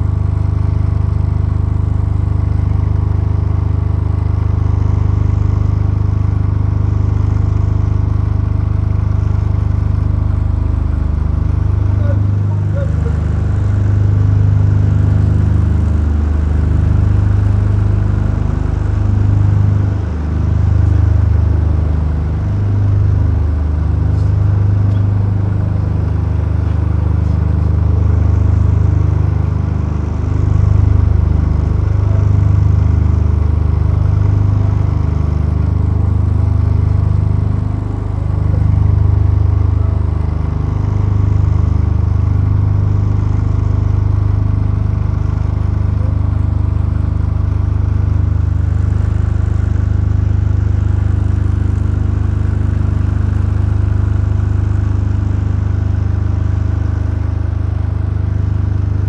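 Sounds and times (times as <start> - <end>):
vehicle engine rumbling: 0.0 - 59.0.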